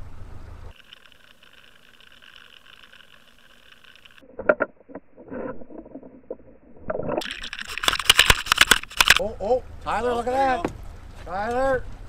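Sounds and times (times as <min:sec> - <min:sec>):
faint steady whine: 0:00.0 - 0:10.6.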